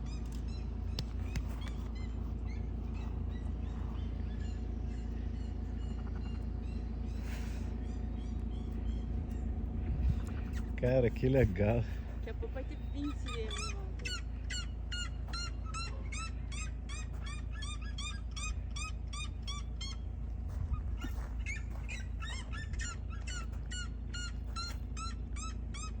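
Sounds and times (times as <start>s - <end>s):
birds calling: 0.0s - 26.0s
steady low rumble: 0.0s - 26.0s.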